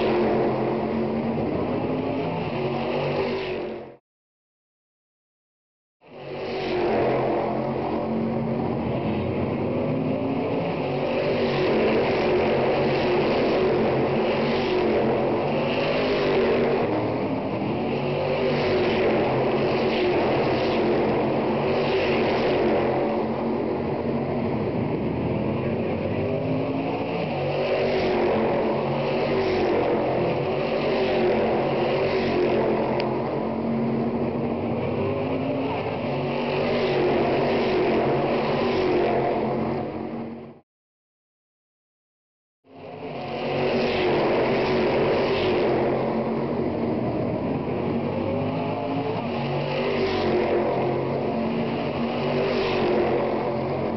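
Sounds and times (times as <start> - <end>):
race car engines passing: 0.0 - 4.0, 6.1 - 40.5, 42.7 - 53.9.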